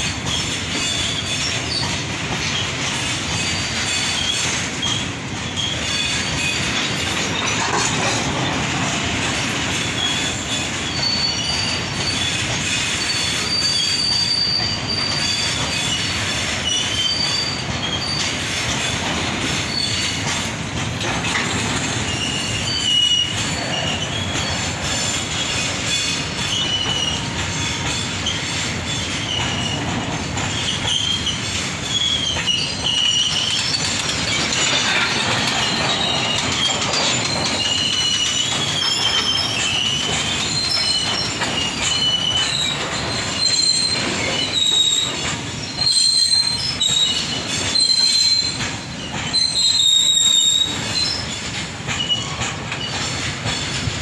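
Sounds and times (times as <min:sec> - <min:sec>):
train knocks: 0:00.0 - 0:54.0
train wheels rumbling on rails: 0:00.0 - 0:54.0
high-pitched wheel squeal: 0:00.3 - 0:20.4, 0:21.4 - 0:53.9.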